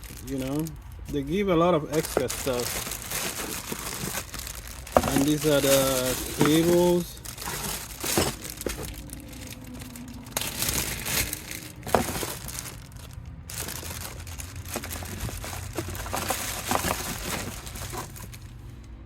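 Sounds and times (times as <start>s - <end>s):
plastic packaging crinkling: 0.0s - 18.6s.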